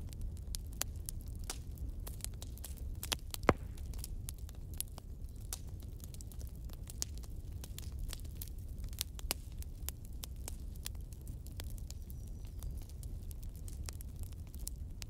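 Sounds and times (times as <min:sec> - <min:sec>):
sharp crackles and clicks: 0:00.1 - 0:15.0.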